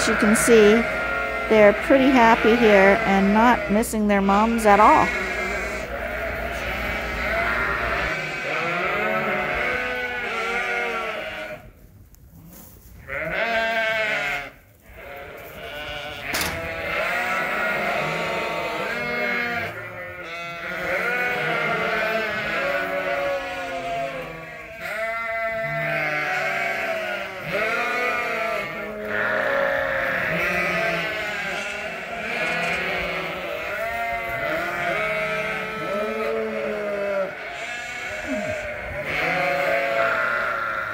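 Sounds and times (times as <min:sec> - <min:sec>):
lambs bleating: 0:00.0 - 0:11.7, 0:13.0 - 0:40.9.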